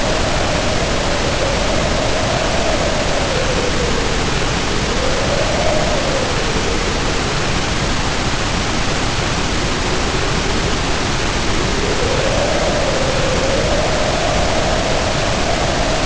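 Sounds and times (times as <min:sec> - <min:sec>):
heavy rain pouring: 0:00.0 - 0:16.0
howling wind: 0:00.0 - 0:16.0.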